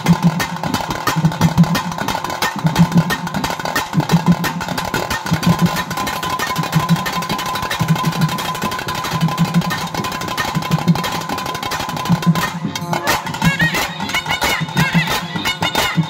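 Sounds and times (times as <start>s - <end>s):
drums beating a steady rhythm: 0.0s - 16.0s.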